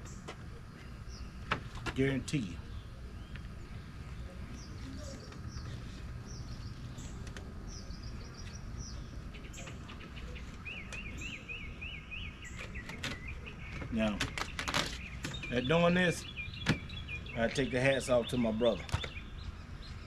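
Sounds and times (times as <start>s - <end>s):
low outdoor rumble: 0.0s - 20.0s
songbirds singing and calling: 0.0s - 20.0s.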